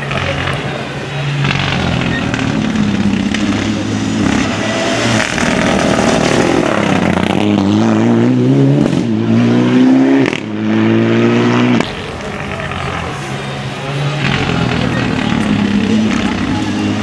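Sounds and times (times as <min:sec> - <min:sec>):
rally car accelerating past: 0:00.3 - 0:17.0.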